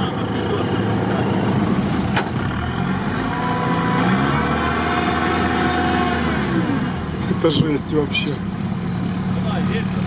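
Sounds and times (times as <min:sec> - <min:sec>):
engine running under load: 0:00.0 - 0:10.0.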